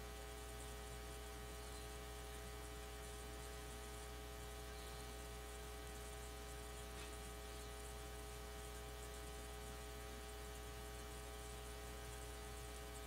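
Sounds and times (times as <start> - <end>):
constant hiss: 0.0 - 13.0
faint steady tones: 0.0 - 13.0
low electrical mains hum: 0.0 - 13.0.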